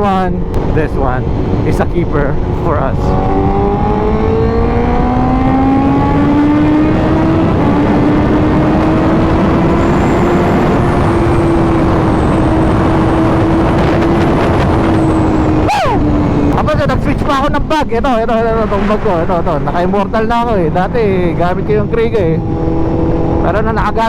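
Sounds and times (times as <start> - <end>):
loud wind rush: 0.0 - 24.0.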